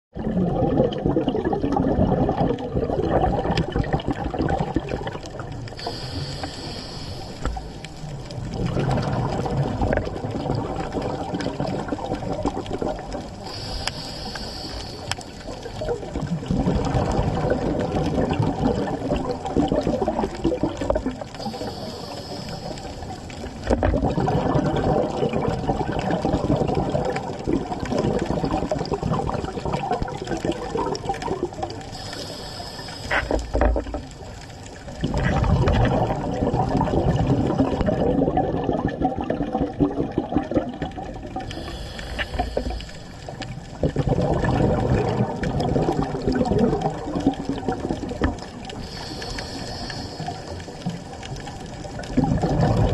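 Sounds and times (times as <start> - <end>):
water bubbling and churning: 0.1 - 52.9.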